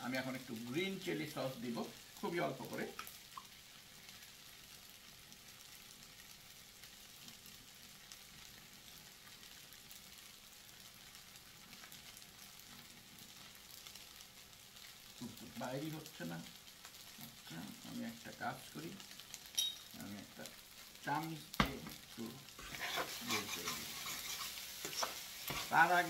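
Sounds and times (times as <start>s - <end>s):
rice sizzling in a pan: 0.0s - 26.0s.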